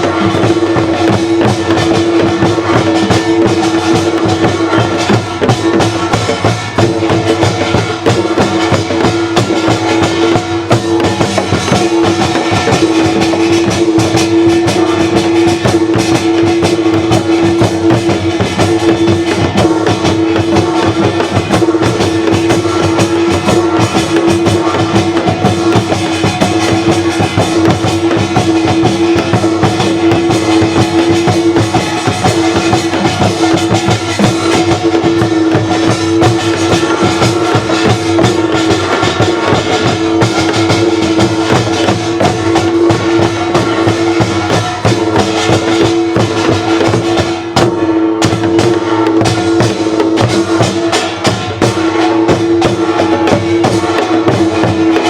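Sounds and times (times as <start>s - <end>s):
fast percussion music: 0.0s - 55.0s.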